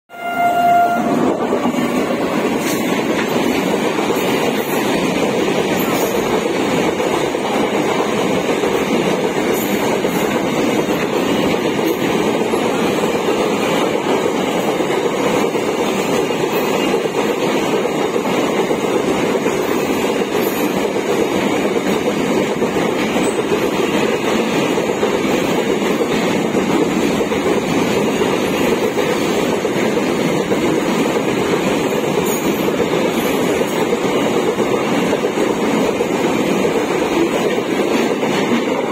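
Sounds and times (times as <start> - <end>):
freight train wheels rumbling: 0.1 - 38.9.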